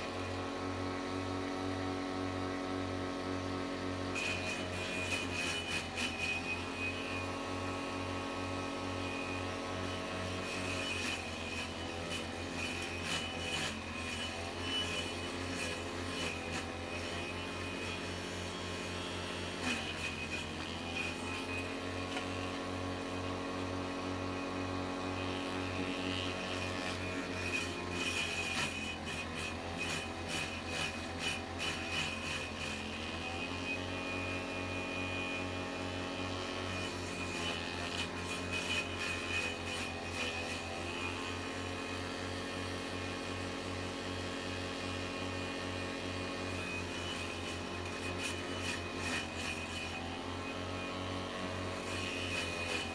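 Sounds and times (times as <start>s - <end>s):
electric motor humming: 0.0s - 52.9s.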